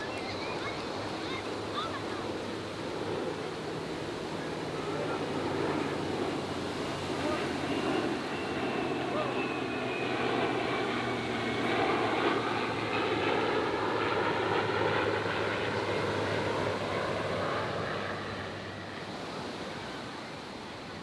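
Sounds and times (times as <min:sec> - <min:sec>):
plane engines flying past: 0:00.0 - 0:21.0.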